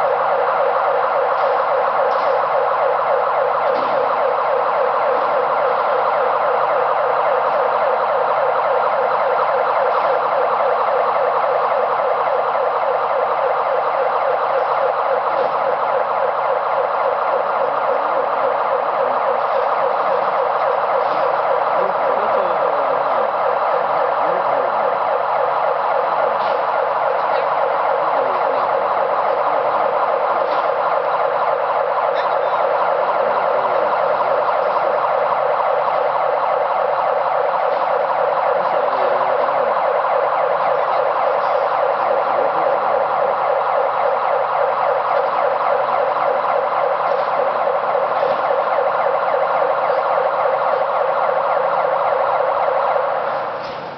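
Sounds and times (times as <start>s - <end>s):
crane warning siren: 0.0s - 53.9s.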